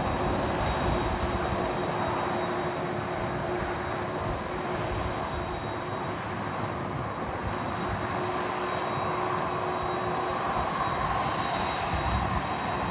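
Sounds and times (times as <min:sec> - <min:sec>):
jet engines rushing and whining: 0:00.0 - 0:12.9.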